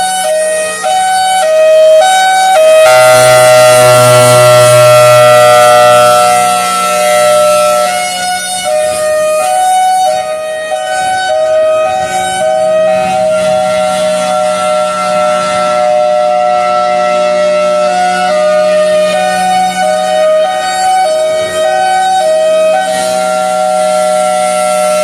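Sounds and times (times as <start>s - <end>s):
hi-lo warning siren: 0.0s - 25.0s.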